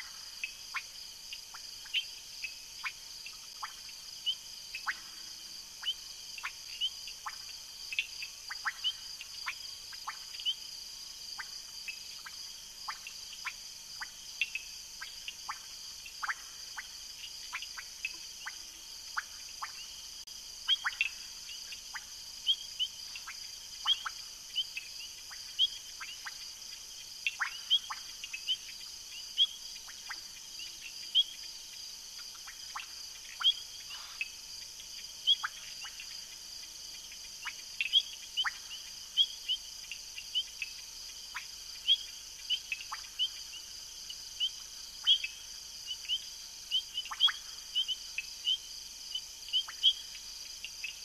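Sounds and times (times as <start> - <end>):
frog chirps: 0.0 - 51.0
insects droning: 0.0 - 51.0.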